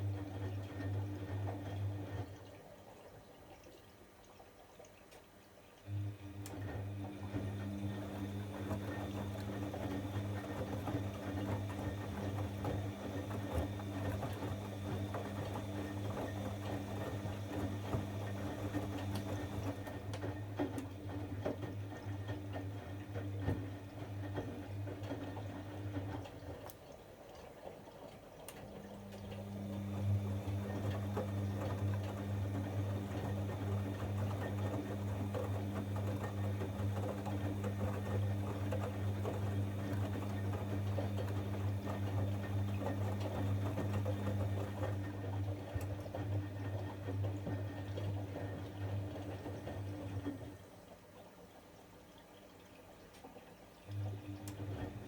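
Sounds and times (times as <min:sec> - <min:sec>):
washing machine motor hum: 0:00.0 - 0:03.1, 0:05.8 - 0:55.0.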